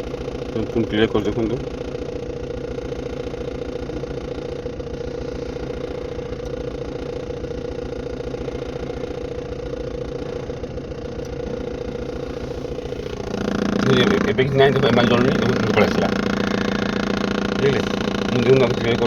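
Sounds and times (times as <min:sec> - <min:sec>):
diesel engine idling and misfiring: 0:00.0 - 0:19.0.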